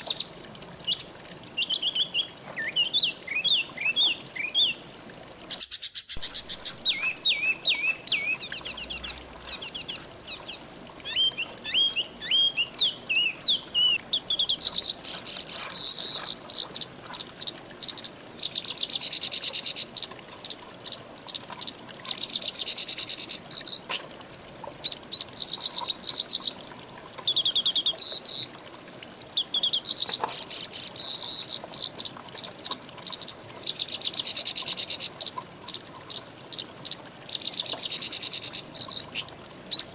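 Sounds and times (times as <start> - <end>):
songbirds singing and trilling: 0.0 - 24.1, 24.8 - 39.9.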